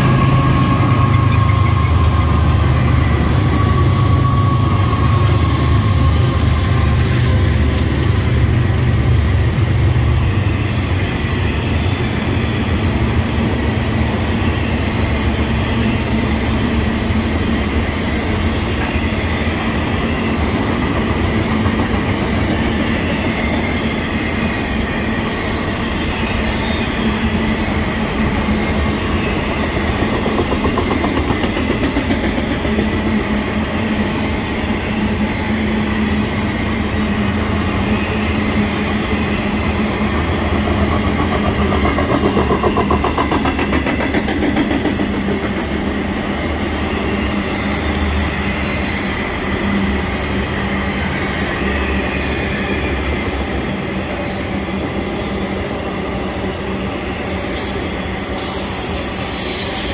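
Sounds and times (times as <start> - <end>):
train wheels rolling on rail: 0.0 - 59.9.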